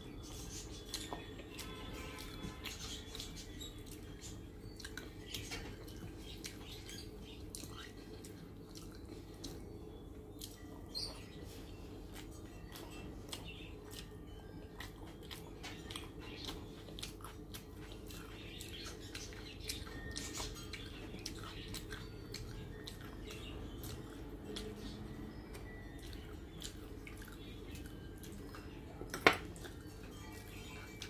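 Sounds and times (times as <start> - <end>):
person chewing and lip smacking: 0.1 - 31.0.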